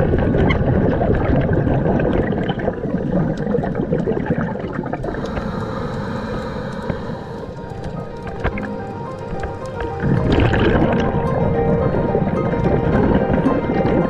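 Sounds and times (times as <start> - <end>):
underwater exhaust bubbles: 0.0 - 14.0.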